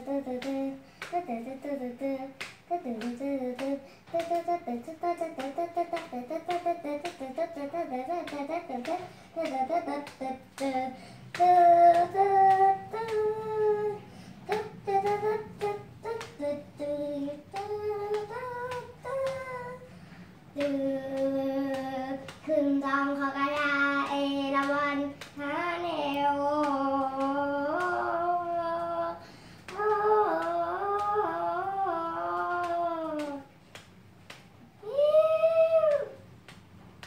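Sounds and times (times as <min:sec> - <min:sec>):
boy singing: 0:00.0 - 0:19.9, 0:20.5 - 0:33.6, 0:34.8 - 0:36.3.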